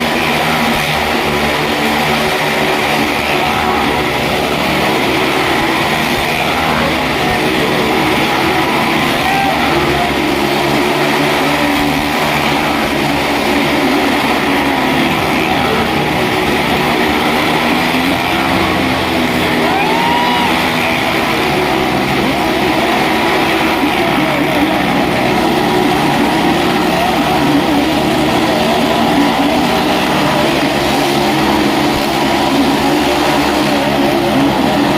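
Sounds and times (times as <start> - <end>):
car and motorcycle engines droning: 0.0 - 34.9.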